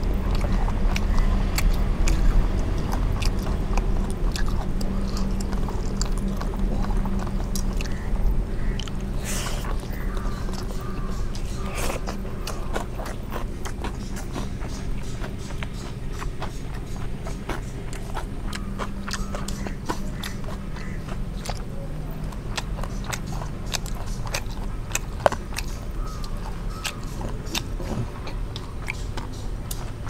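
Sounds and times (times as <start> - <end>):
people chewing food: 0.0 - 30.0.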